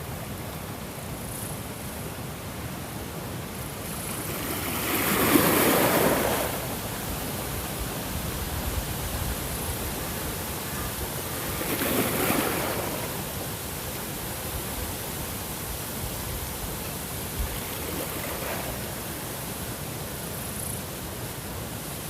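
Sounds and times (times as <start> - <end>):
ocean waves breaking: 1.2 - 22.0.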